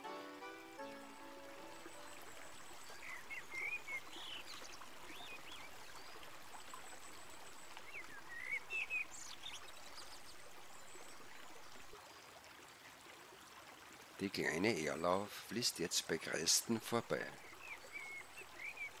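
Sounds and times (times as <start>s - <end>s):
songbird chirps: 0.0s - 12.4s, 14.2s - 19.0s
stream rushing over stones: 0.8s - 19.0s.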